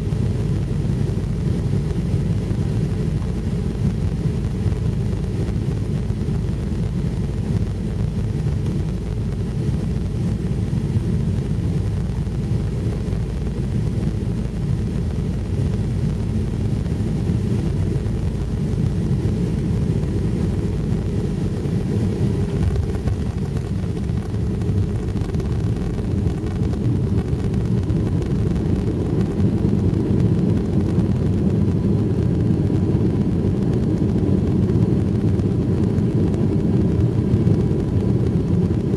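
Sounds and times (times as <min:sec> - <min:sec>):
jet engine rumble in cabin: 0:00.0 - 0:38.9.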